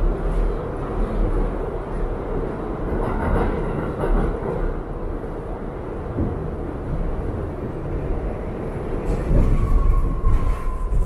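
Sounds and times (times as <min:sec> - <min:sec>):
subway train rail noise: 0:00.0 - 0:11.0.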